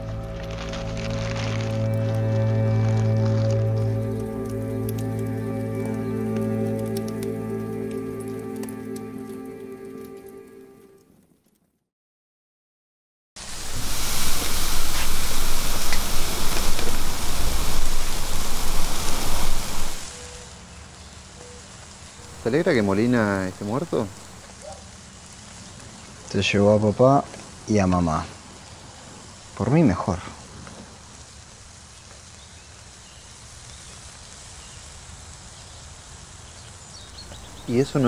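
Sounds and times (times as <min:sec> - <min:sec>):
meat sizzling on a grill: 0:00.0 - 0:07.1, 0:13.4 - 0:38.0
small crackles: 0:00.0 - 0:11.8, 0:13.6 - 0:38.0.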